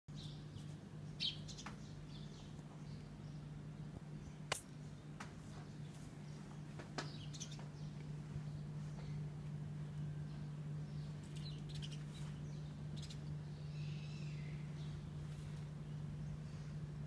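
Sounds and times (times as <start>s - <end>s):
small bird chirping: 0.1s - 4.6s, 6.2s - 9.2s, 10.2s - 16.9s
low hum: 0.1s - 17.0s.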